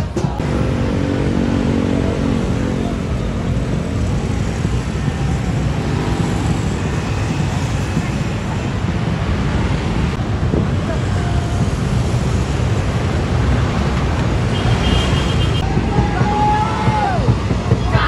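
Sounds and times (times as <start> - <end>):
voices: 0.0 - 12.5, 14.5 - 18.0
buses passing: 0.0 - 18.0
motorcycle and car engines: 0.0 - 18.0.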